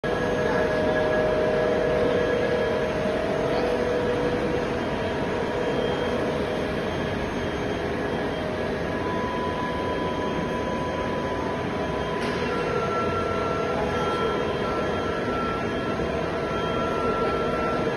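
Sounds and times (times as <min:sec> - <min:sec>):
thin whining tones: 0:00.1 - 0:17.9.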